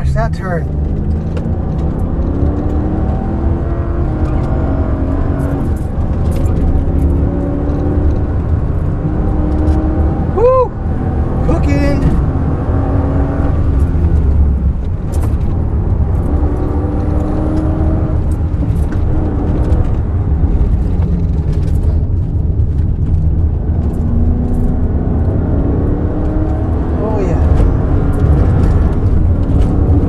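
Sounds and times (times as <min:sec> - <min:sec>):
car engine revving under load: 0:00.0 - 0:30.0.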